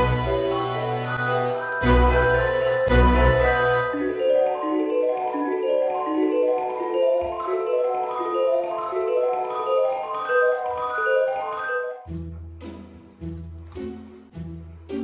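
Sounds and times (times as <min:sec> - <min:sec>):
light background melody: 0:00.0 - 0:15.0.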